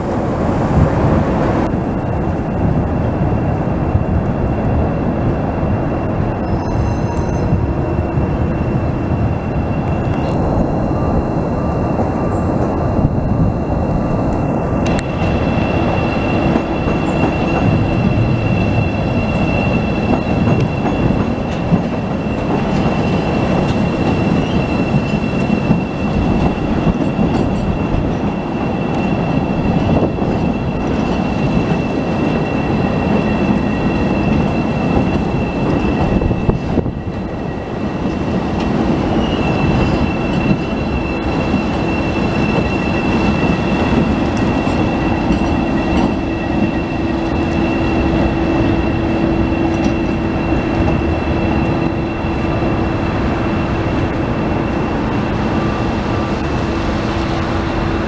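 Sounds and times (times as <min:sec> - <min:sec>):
train wheels rumbling on rails: 0:00.0 - 0:58.0
high-pitched wheel squeal: 0:06.0 - 0:14.2, 0:14.9 - 0:57.6.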